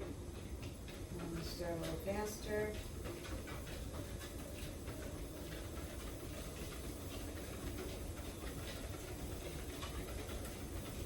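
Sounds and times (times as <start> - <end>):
treadmill humming: 0.0 - 11.0
dog paws tapping on belt: 0.4 - 11.0.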